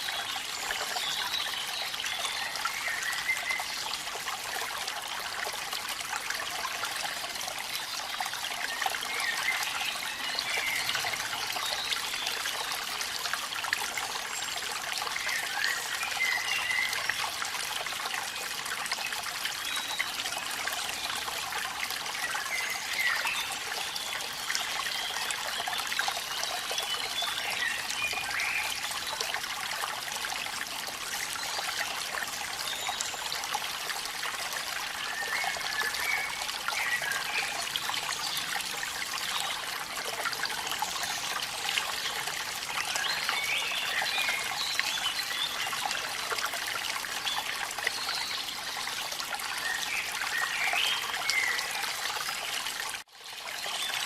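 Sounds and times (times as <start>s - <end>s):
waterfall splashing and trickling: 0.0s - 54.0s.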